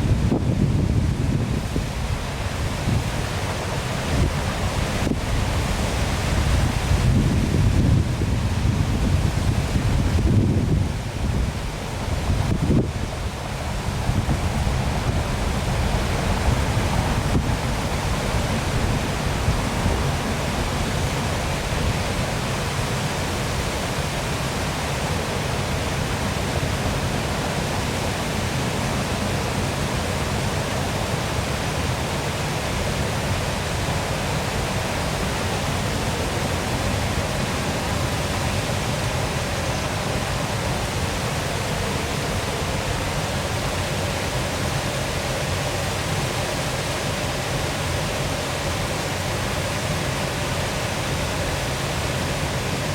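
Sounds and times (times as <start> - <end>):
waterfall splashing: 0.0 - 52.9.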